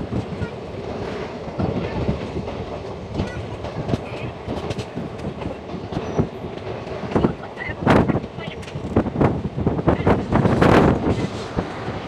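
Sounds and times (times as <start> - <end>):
steel wheels clattering over rail joints: 0.0 - 12.0
train coaches rumbling: 0.0 - 12.0.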